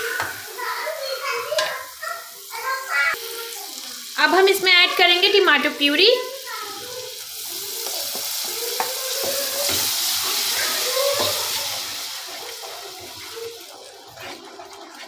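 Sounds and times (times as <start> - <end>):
puree sizzling in hot oil: 0.0 - 15.0.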